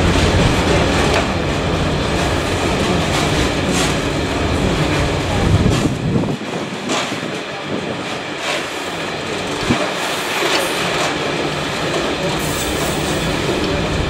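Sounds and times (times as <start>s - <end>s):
train rumble: 0.0s - 14.0s
train wheels clattering on rail joints: 0.0s - 14.0s.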